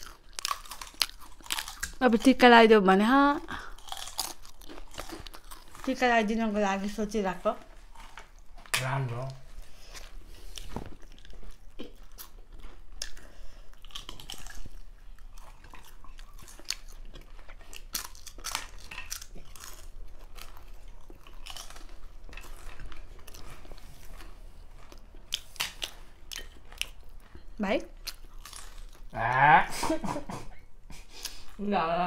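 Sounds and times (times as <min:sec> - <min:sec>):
person chewing crunchy food: 0:00.0 - 0:02.4, 0:03.4 - 0:06.3, 0:07.7 - 0:29.4.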